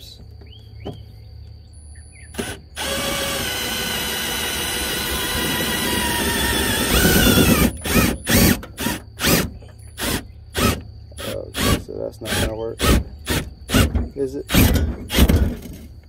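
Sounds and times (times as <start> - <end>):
drill motor whining: 2.3 - 15.4
drill trigger bursts: 2.4 - 15.3.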